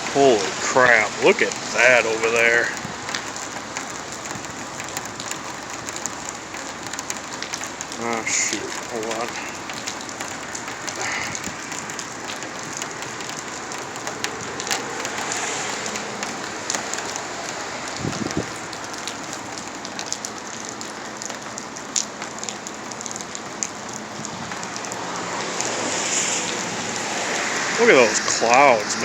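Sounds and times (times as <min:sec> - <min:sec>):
rain falling: 0:00.0 - 0:29.0
raindrops ticking on hard surfaces: 0:00.0 - 0:29.0.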